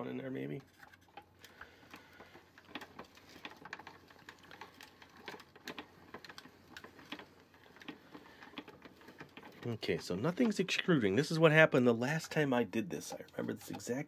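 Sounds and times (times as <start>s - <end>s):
plastic toy crank clicking: 0.6s - 11.5s, 12.1s - 14.0s.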